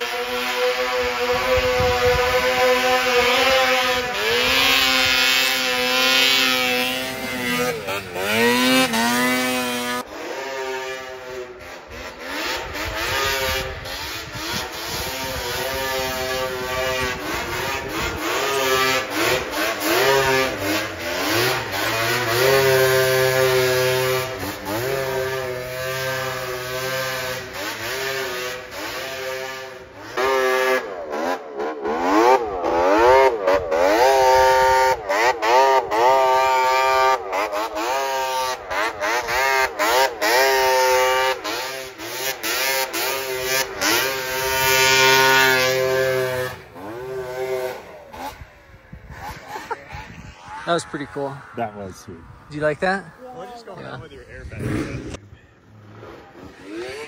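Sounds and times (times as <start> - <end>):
snowmobile engines revving: 0.0 - 57.0.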